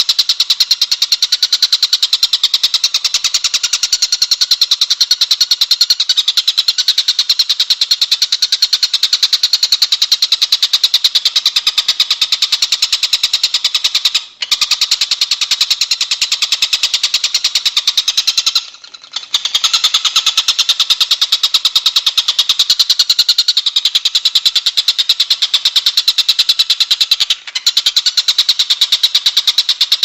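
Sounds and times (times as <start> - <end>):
songbird rapid trill: 0.0 - 30.0.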